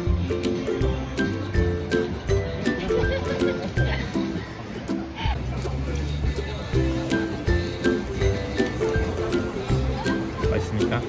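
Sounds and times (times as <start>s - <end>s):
music with steady beat and bass: 0.0s - 11.0s.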